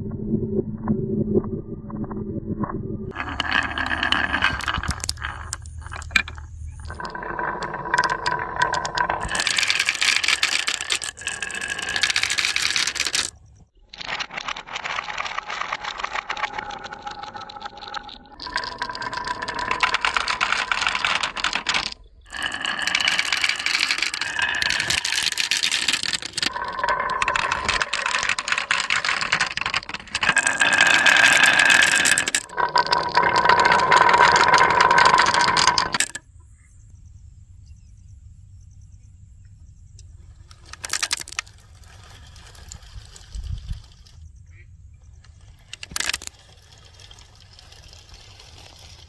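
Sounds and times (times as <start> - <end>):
marbles rolling down wooden run: 3.1 - 36.2, 40.5 - 44.2, 45.3 - 49.0.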